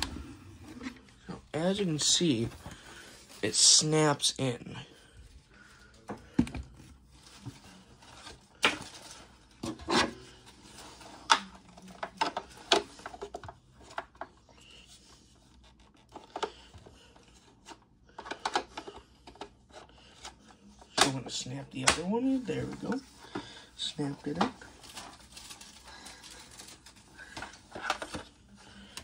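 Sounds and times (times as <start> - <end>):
plastic rubbing and scraping: 0.0 - 1.7, 6.2 - 29.0.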